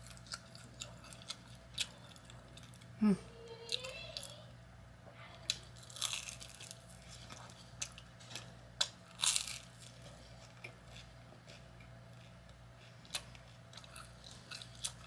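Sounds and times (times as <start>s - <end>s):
food being chewed with crunches: 0.0s - 3.0s, 5.3s - 15.0s.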